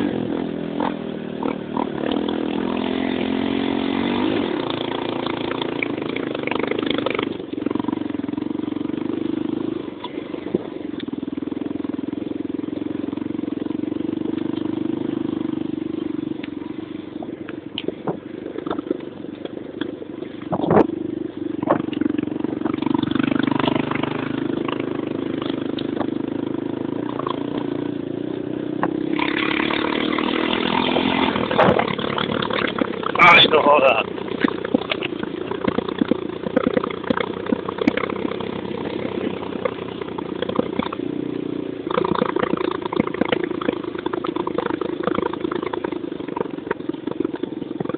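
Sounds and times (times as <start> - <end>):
motocross motorcycle engine: 0.0 - 47.9.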